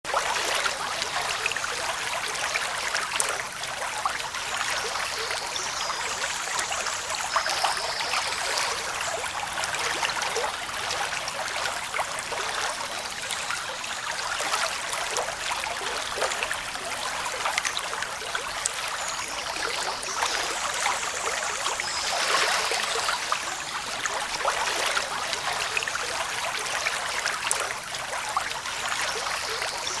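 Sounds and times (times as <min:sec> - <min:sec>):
stream water rushing: 0:00.1 - 0:30.0.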